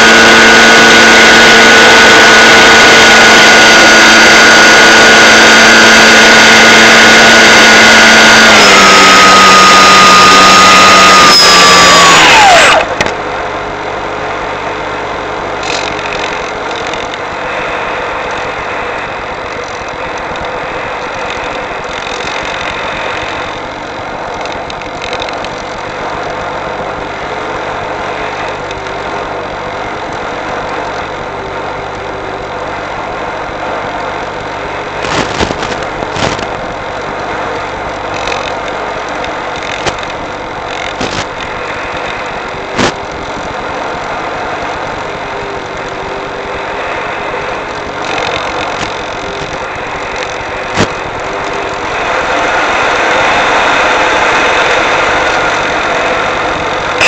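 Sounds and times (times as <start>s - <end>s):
rushing drone with low hum: 0.0s - 57.0s
sharp static crackles: 0.0s - 57.0s.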